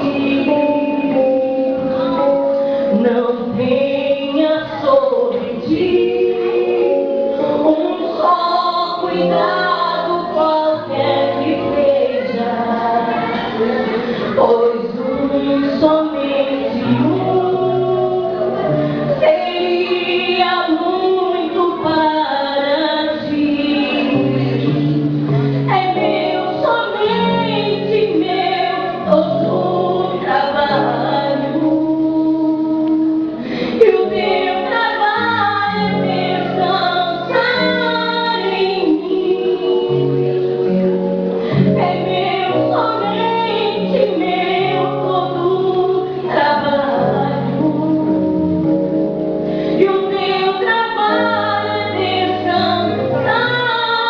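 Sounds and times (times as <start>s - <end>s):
woman singing a hymn: 0.0s - 24.9s, 25.6s - 48.8s, 49.7s - 54.0s
musical accompaniment: 0.0s - 54.0s.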